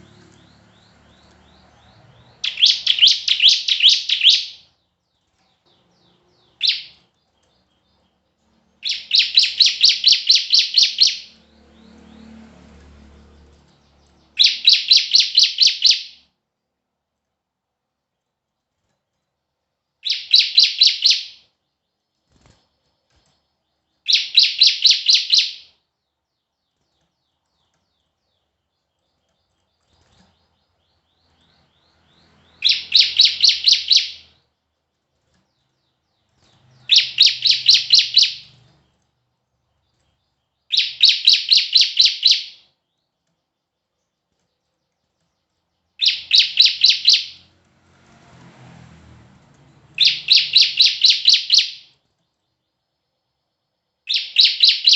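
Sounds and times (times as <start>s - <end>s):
songbird sharp high chirps: 0.0s - 12.5s, 13.2s - 16.3s, 20.0s - 34.5s, 35.5s - 39.0s, 39.6s - 43.2s, 44.8s - 47.5s, 49.6s - 54.9s.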